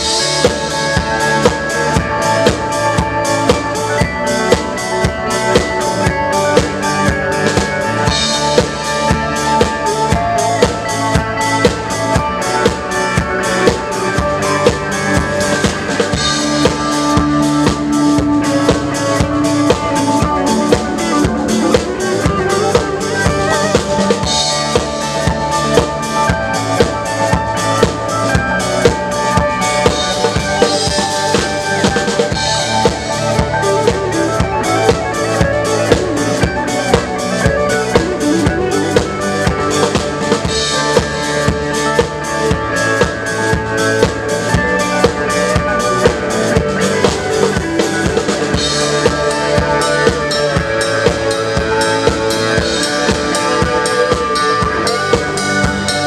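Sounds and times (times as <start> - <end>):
drum kit playing rock beat: 0.0 - 56.0
guitar holding notes: 0.0 - 56.0.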